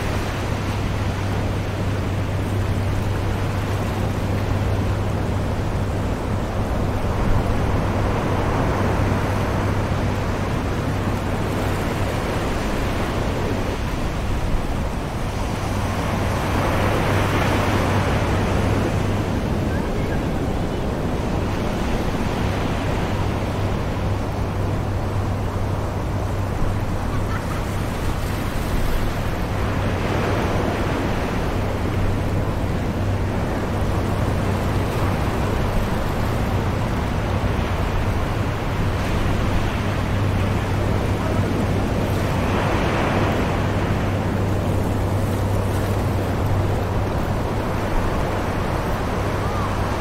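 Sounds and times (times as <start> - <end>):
distant ocean waves breaking: 0.0 - 50.0.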